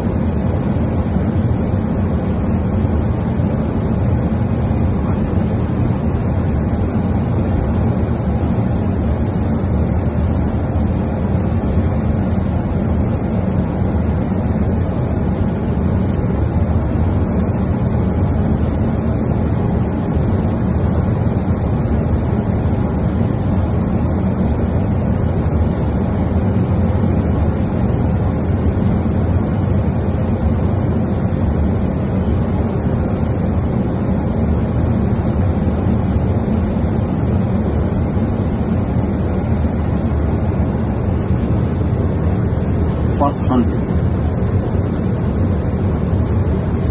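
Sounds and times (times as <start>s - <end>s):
airflow and engine rumble: 0.0s - 46.9s
faint steady hum: 0.0s - 46.9s.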